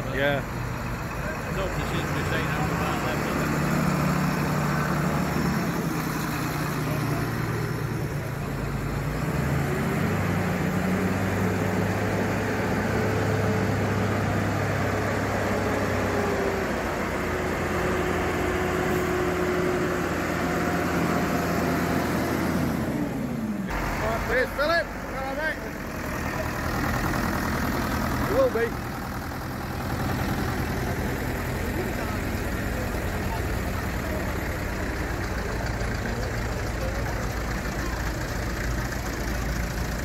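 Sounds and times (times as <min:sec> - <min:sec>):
tractor diesel engines driving past: 0:00.0 - 0:40.0.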